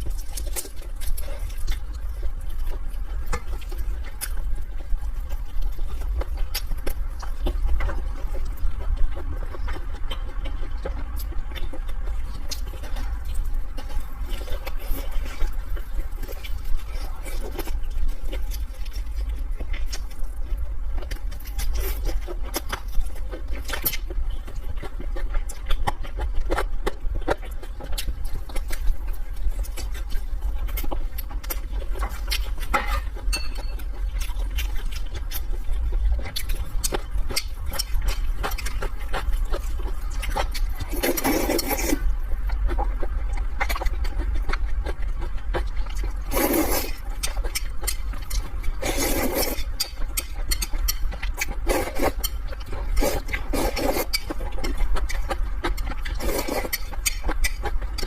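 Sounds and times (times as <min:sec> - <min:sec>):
person chewing and smacking food: 0:00.0 - 0:58.0.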